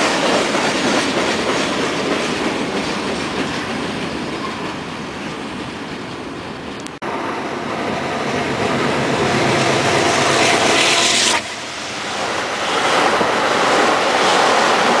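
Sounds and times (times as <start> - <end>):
passenger train rushing by: 0.0 - 15.0.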